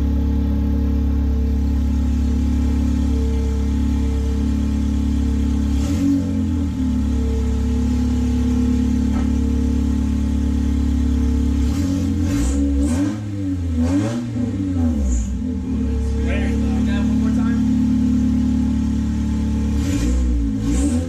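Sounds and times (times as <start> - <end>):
car engine idling loudly: 0.0 - 21.0
engine revving: 0.0 - 21.0.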